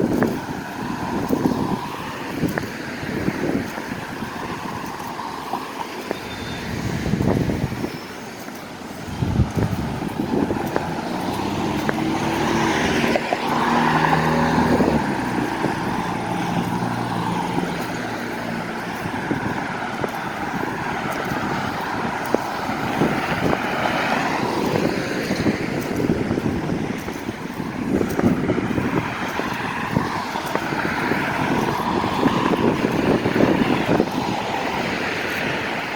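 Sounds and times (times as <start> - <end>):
cars driving past: 0.0 - 35.9.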